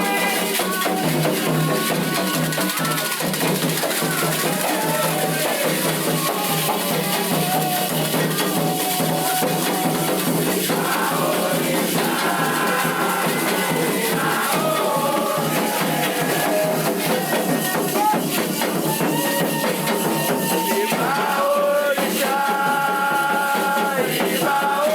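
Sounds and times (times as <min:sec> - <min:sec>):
hand drums: 0:00.0 - 0:24.9
shaken rattles: 0:00.0 - 0:24.9
voices singing a chant: 0:00.0 - 0:24.9.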